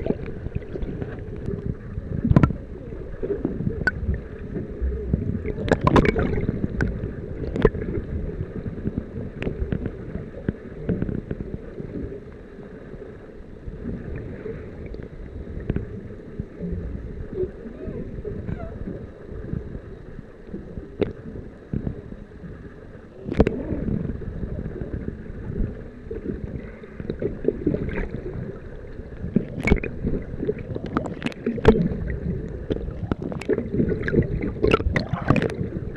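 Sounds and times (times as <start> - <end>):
underwater clicks and crackles: 0.0 - 35.9
underwater rumble of moving water: 0.0 - 35.9.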